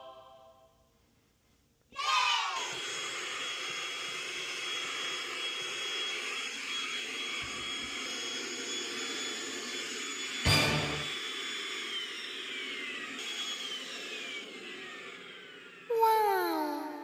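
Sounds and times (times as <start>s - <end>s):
motor running with whine: 2.6s - 17.0s.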